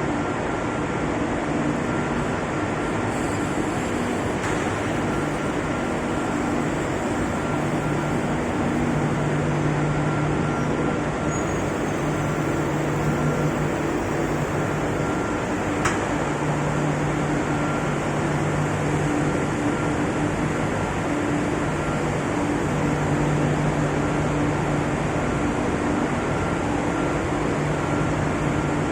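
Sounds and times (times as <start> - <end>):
machinery droning with hum tones: 0.0 - 28.9.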